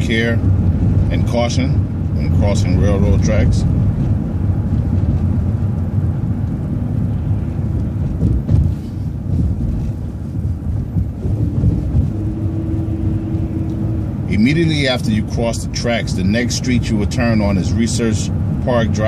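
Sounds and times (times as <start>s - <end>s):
bus engine and road rumble: 0.0s - 19.0s
steady hum: 0.0s - 19.0s.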